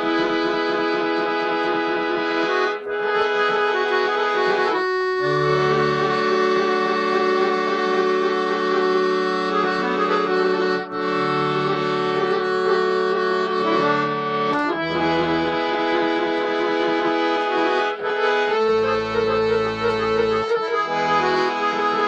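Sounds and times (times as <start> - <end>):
accordion melody: 0.0 - 22.0.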